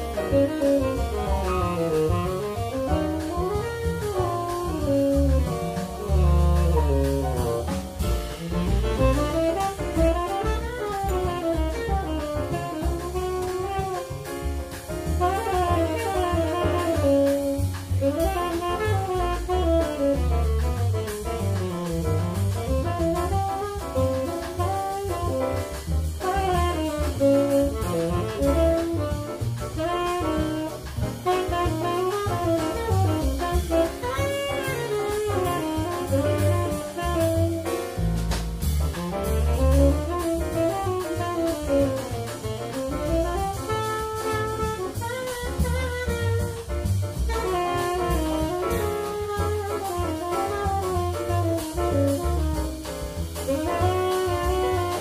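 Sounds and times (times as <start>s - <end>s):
double bass: 0.0s - 55.0s
drum kit with cymbals: 0.0s - 55.0s
piano: 0.0s - 55.0s
saxophone solo: 0.0s - 55.0s.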